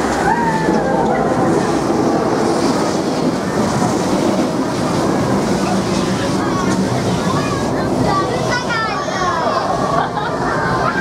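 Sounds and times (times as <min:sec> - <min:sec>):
railcar running noise: 0:00.0 - 0:11.0.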